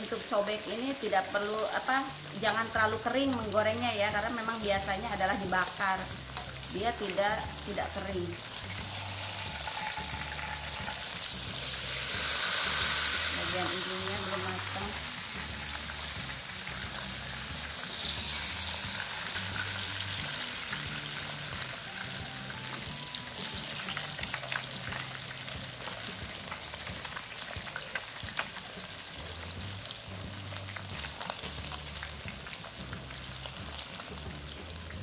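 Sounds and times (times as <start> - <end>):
fish sizzling in a pan: 0.0 - 35.0.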